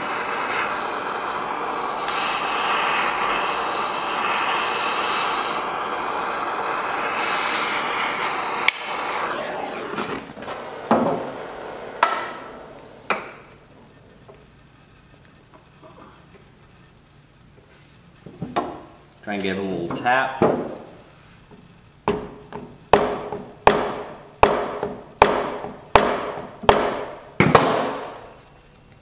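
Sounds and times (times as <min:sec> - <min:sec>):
heat gun blowing: 0:00.0 - 0:15.8, 0:20.7 - 0:28.4.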